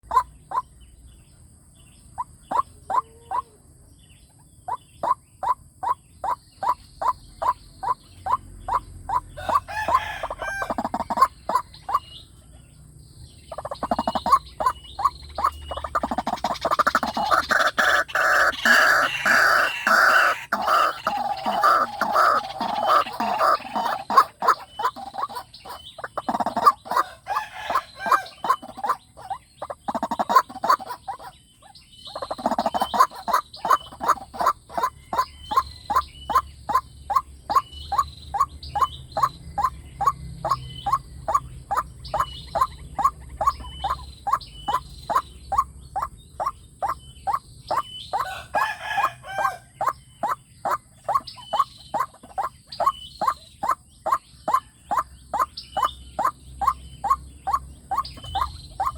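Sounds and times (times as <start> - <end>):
waterhen calling: 0.0 - 0.6, 4.7 - 12.1, 13.5 - 31.4, 32.1 - 58.9.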